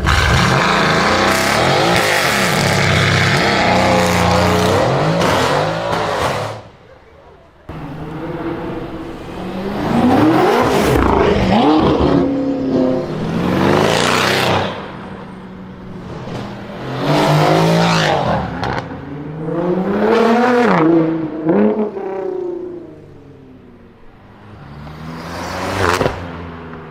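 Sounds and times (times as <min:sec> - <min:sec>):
car engine revving: 0:00.0 - 0:06.8, 0:07.7 - 0:23.3, 0:24.0 - 0:26.9.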